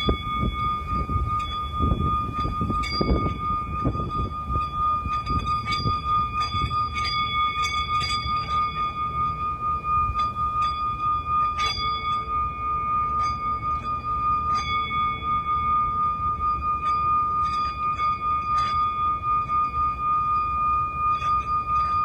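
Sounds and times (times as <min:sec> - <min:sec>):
low rumbling noise: 0:00.0 - 0:22.0
singing bowl ringing: 0:00.0 - 0:22.0.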